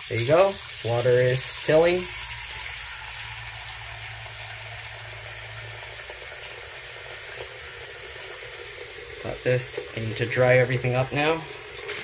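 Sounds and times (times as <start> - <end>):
faucet water splashing into sink: 0.0 - 12.0.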